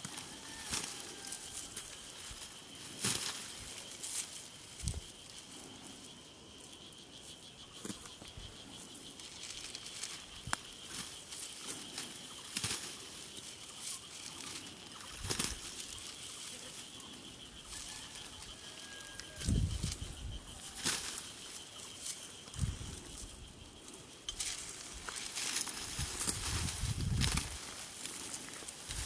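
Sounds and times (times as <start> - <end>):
dry stalks rustling and crackling: 0.0 - 29.0.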